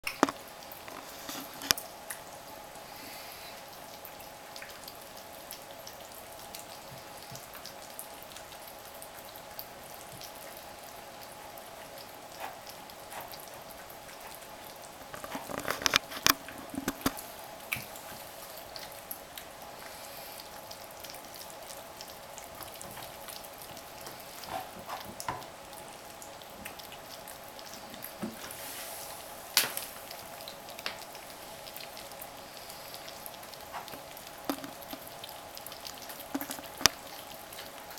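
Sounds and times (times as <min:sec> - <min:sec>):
kittens eating wet food: 0:00.1 - 0:37.9.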